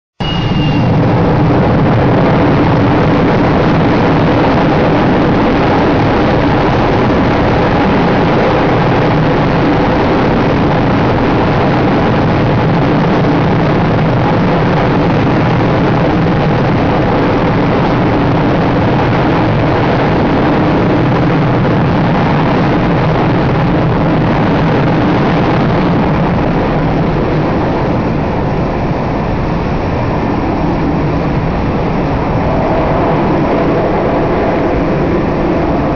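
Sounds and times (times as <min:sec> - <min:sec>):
jet engines roaring: 0:00.2 - 0:35.9.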